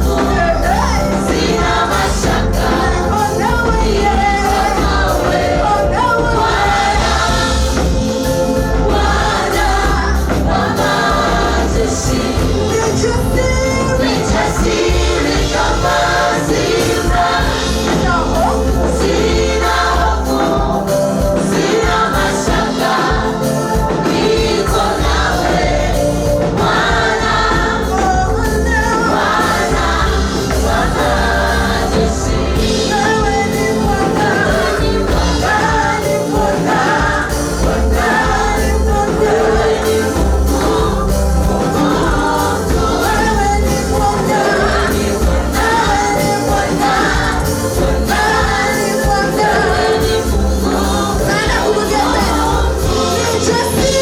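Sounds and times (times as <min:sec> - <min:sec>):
choir singing gospel music: 0:00.0 - 0:54.0
instrumental backing with bass beat: 0:00.0 - 0:54.0.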